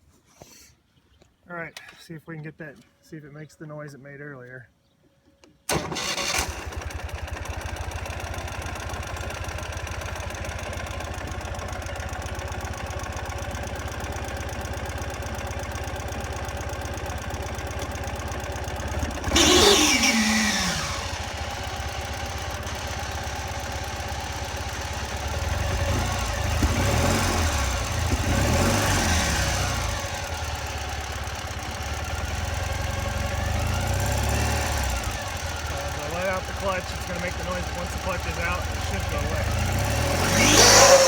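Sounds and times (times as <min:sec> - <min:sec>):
motorcycle engine idling and revving: 0:05.7 - 0:41.0.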